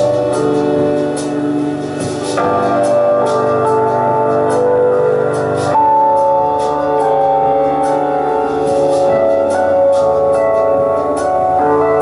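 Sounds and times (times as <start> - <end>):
electric keyboard chords: 0.0 - 12.0.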